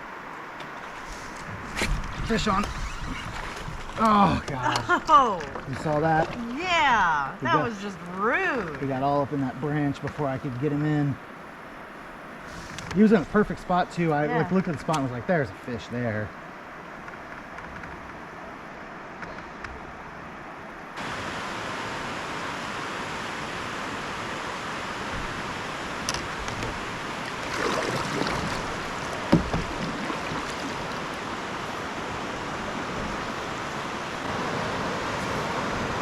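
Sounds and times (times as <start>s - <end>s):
river water rushing: 0.0s - 17.6s, 19.8s - 36.0s.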